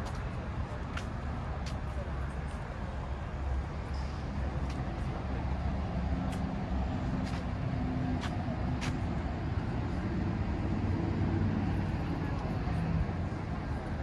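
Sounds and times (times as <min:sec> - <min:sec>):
bus engines idling: 0:00.0 - 0:14.0.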